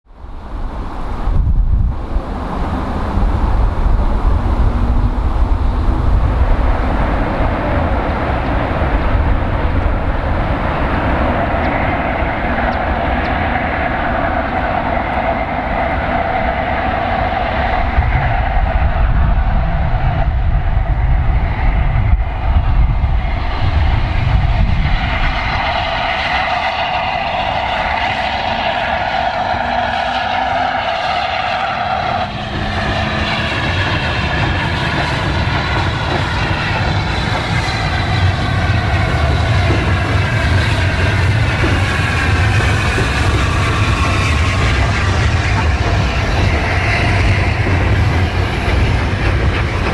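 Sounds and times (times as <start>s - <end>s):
steam train on rails: 0.1s - 49.9s
wind rumble on microphone: 0.1s - 49.9s.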